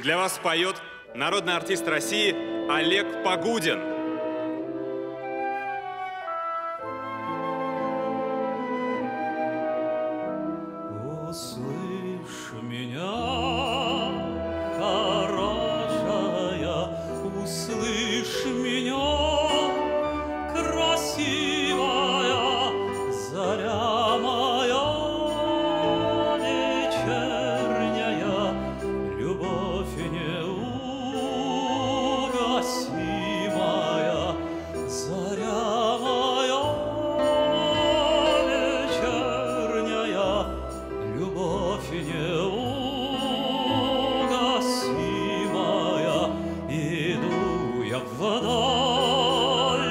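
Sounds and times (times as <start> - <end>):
man singing operatically: 0.0 - 4.4, 10.9 - 49.9
instrumental accompaniment: 0.0 - 49.9.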